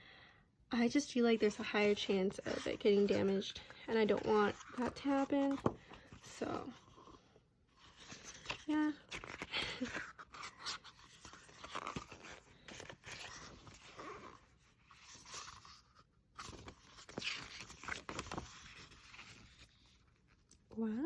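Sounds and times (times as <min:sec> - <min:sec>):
paper pages rustling: 0:01.4 - 0:07.2, 0:07.8 - 0:20.5.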